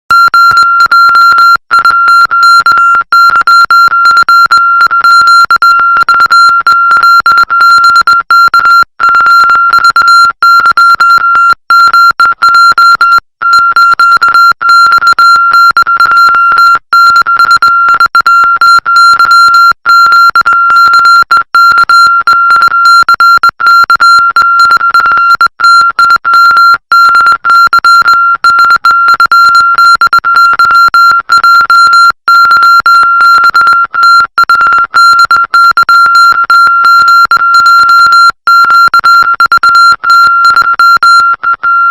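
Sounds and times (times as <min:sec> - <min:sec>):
morse code beeps: 0:00.1 - 0:41.9.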